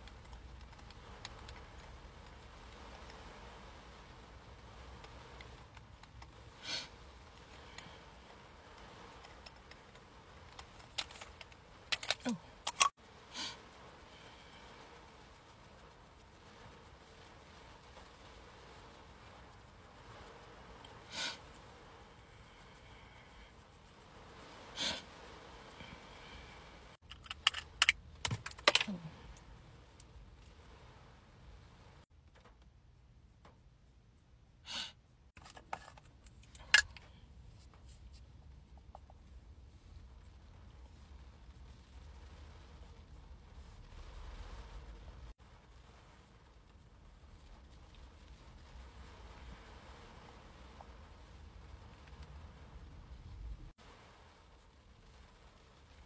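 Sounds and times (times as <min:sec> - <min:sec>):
soft rubs: 0:00.0 - 0:27.1, 0:32.8 - 0:56.0.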